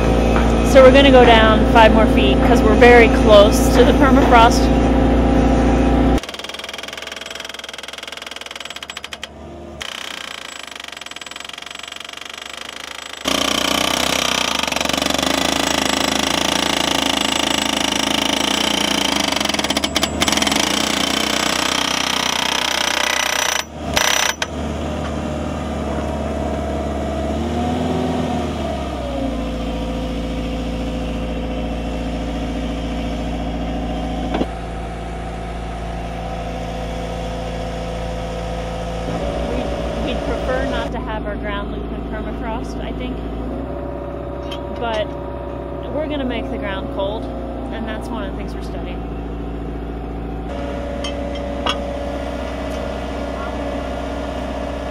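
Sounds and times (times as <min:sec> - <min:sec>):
drill rig running: 0:00.0 - 0:27.5, 0:29.3 - 0:54.9.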